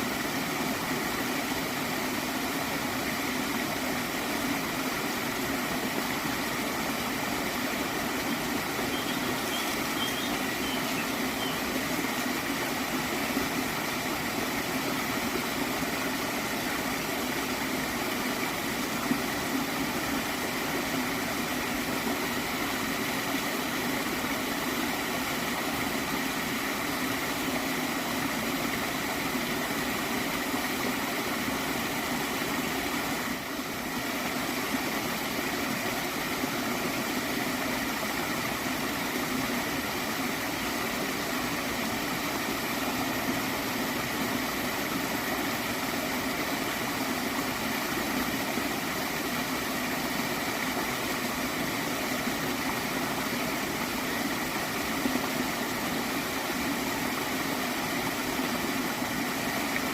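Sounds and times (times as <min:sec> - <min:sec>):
stream gurgling: 0:00.0 - 0:59.9.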